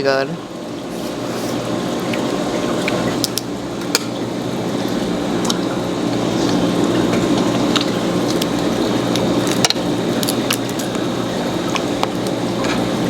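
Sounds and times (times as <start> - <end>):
steady low hum: 0.0 - 13.0
wet squishing and chewing: 1.0 - 13.0.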